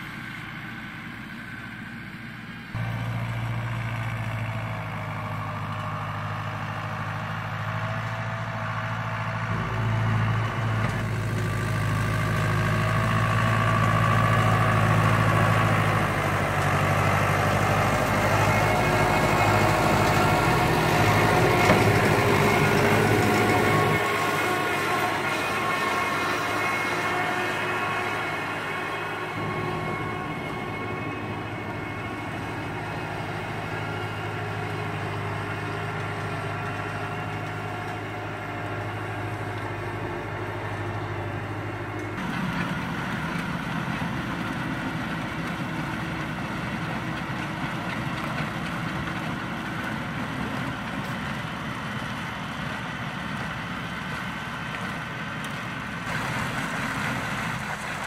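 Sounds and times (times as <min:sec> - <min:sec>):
tractor engine hum: 0:00.0 - 0:58.0.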